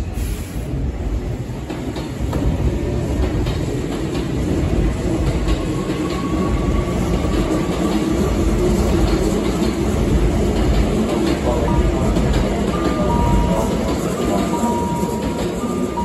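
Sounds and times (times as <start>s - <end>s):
electric train rumble: 0.0s - 16.0s
faint train whine: 0.0s - 16.0s.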